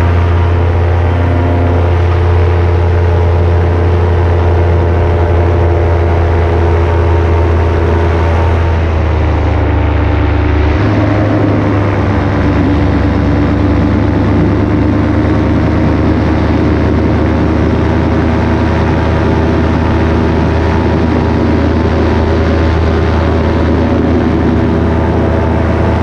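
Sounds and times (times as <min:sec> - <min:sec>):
paramotor engine and propeller: 0:00.0 - 0:26.0.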